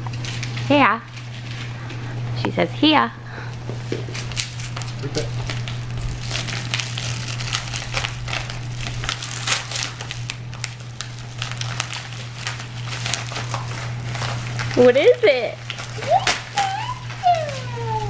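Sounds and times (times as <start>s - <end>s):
paper packaging crinkling: 0.1s - 1.9s, 4.1s - 18.0s.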